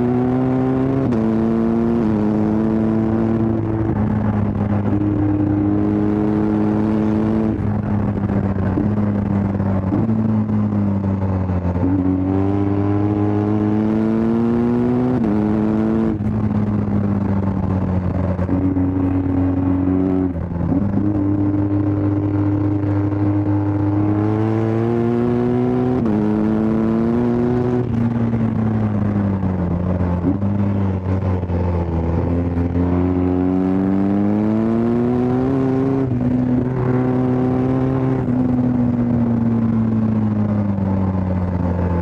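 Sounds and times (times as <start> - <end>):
motorcycle engine revving through gears: 0.0 - 42.0.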